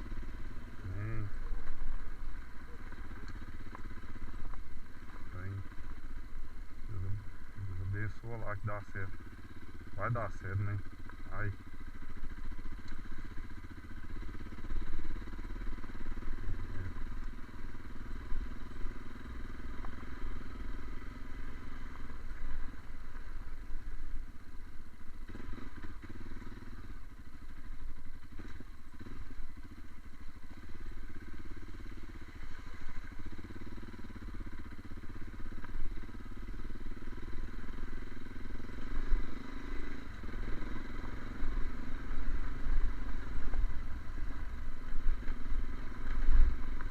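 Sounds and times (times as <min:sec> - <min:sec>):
vehicle engine and road rumble: 0:00.0 - 0:46.9.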